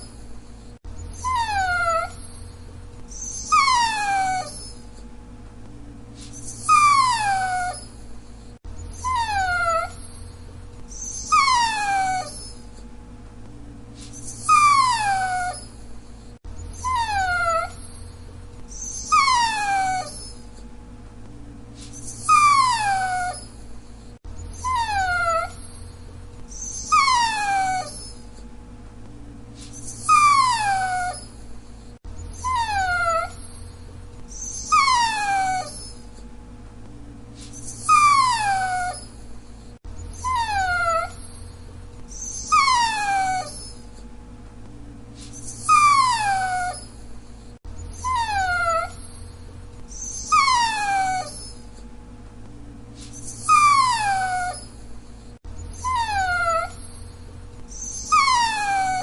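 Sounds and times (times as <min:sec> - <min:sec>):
dog whimpering: 0:00.0 - 0:05.0, 0:06.2 - 0:12.8, 0:14.0 - 0:20.7, 0:21.8 - 0:28.5, 0:29.6 - 0:36.3, 0:37.4 - 0:44.1, 0:45.2 - 0:51.9, 0:53.0 - 0:59.0.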